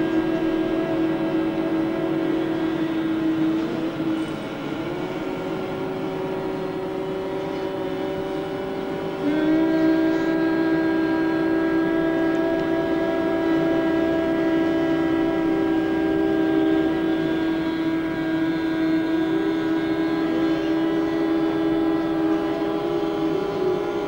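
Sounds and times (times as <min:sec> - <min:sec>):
group of people humming: 0:00.0 - 0:24.0.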